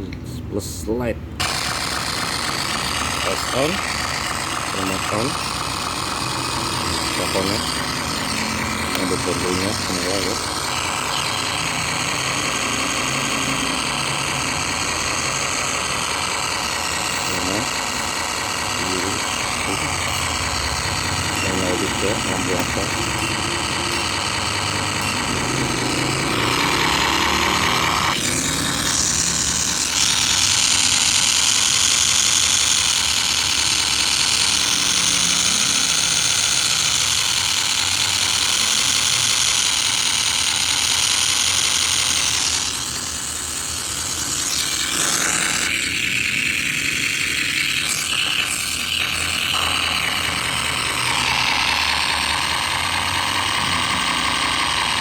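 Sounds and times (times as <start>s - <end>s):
simulated truck engine from speaker: 0.0s - 55.0s.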